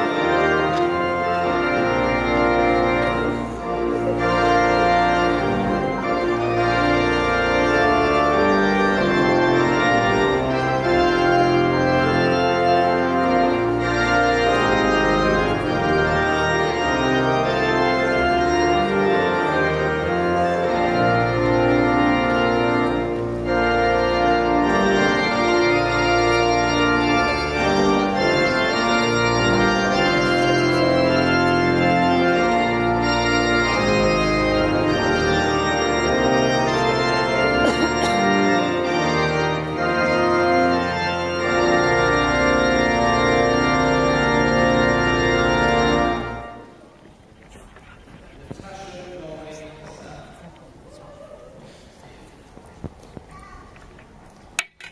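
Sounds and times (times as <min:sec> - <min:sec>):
organ playing sustained chords: 0:00.0 - 0:50.7.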